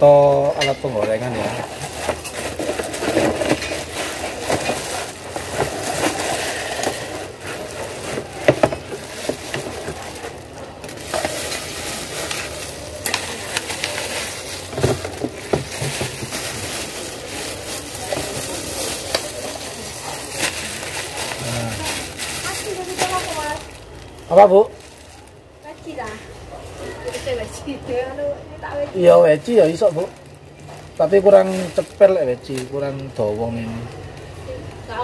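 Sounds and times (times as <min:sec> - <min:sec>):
plastic wrapping crinkling: 0:00.0 - 0:28.0, 0:29.0 - 0:35.0.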